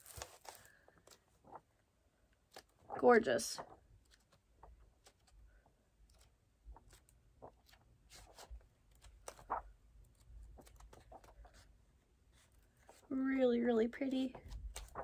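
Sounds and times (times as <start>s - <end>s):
book pages turning: 0.0s - 13.2s, 13.9s - 15.0s.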